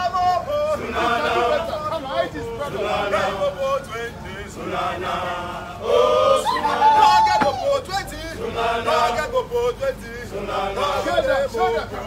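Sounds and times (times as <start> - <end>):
men chanting a song: 0.0 - 12.0.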